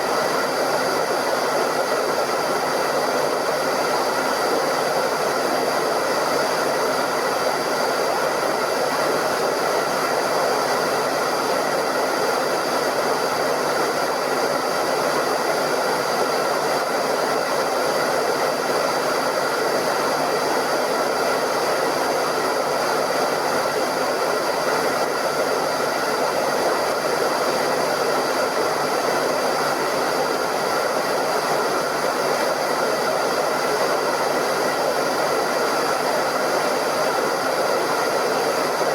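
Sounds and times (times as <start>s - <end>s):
hairdryer blowing: 0.0s - 38.9s.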